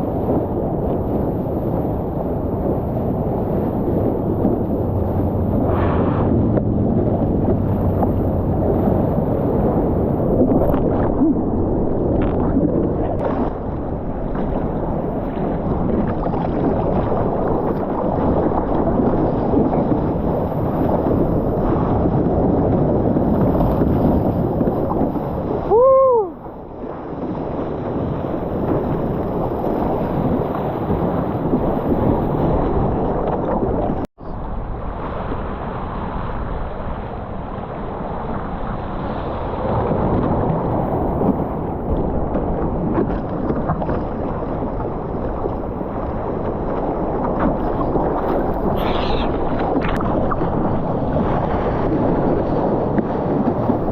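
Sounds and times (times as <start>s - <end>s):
water and wind rushing over microphone: 0.0s - 53.9s.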